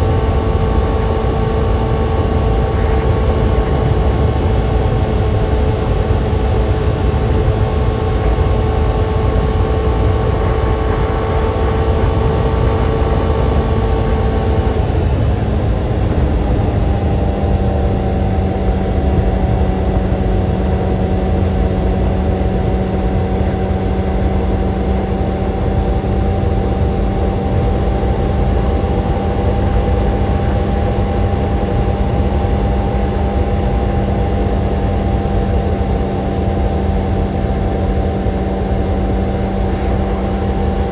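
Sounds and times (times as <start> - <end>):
low wind rumble: 0.0 - 40.9
motorcycle engine running: 0.0 - 40.9.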